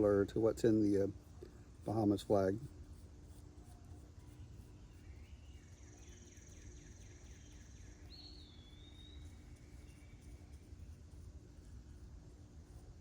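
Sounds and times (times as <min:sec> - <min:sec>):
faint birdsong: 0:00.0 - 0:13.0
low steady hum: 0:00.0 - 0:13.0.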